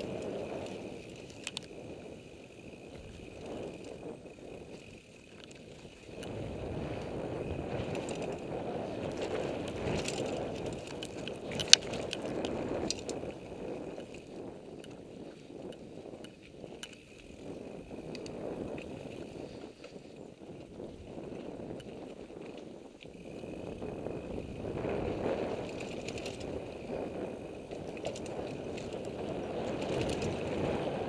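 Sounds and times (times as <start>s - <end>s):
bike tyres rumbling over rough ground: 0.0s - 31.0s.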